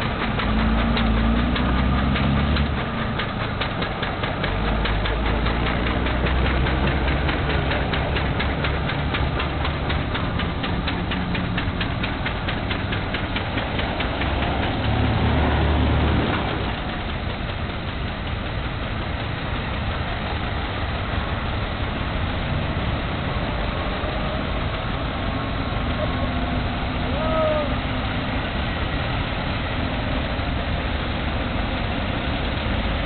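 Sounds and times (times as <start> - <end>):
old car engines clattering: 0.0 - 33.0
road noise: 0.0 - 33.0.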